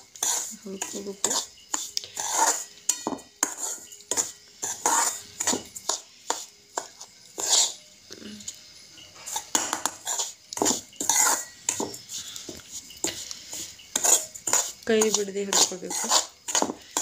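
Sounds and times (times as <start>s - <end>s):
metal spoon scraping a pan: 0.0s - 17.0s.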